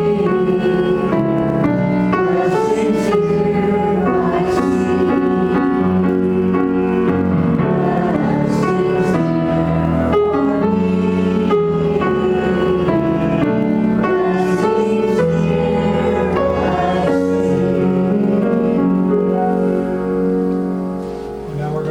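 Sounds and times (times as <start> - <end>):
keyboard chords: 0.0 - 21.9.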